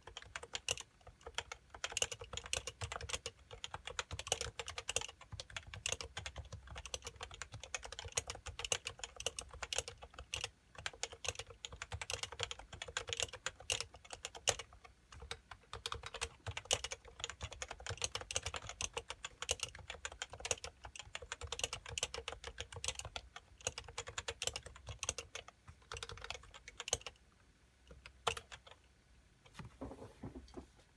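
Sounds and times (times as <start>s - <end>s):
fast keyboard typing: 0.0s - 27.2s, 28.0s - 28.8s.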